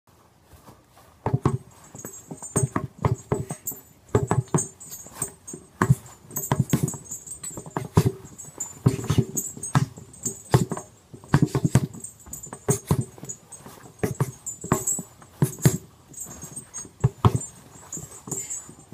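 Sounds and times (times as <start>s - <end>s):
fists thudding on tyres: 1.2s - 18.9s.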